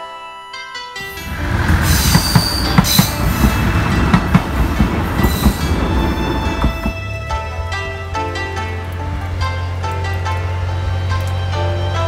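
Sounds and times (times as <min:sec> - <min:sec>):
diesel railcar rumble: 0:01.0 - 0:12.0
high wheel squeals: 0:01.0 - 0:12.0
wheels clicking over rail joints: 0:01.0 - 0:12.0.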